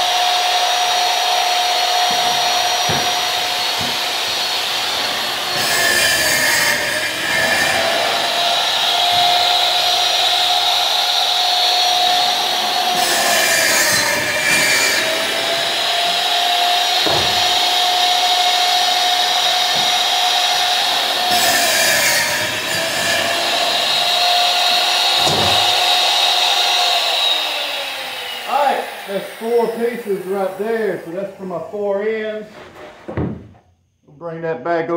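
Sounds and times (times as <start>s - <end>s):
panel saw motor whining: 0.0s - 32.4s
saw blade cutting panel: 0.0s - 33.5s.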